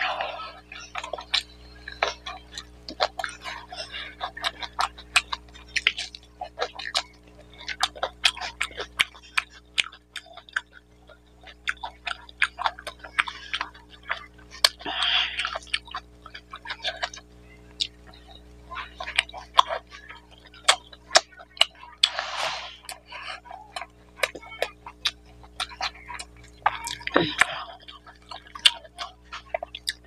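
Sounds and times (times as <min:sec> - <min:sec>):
man chewing with wet clicks: 0:00.0 - 0:30.0.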